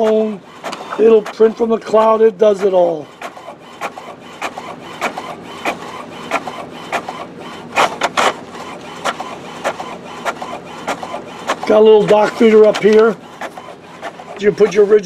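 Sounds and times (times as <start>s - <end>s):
printer louder strokes: 0.0s - 15.0s
printer mechanical clicks: 0.0s - 15.0s.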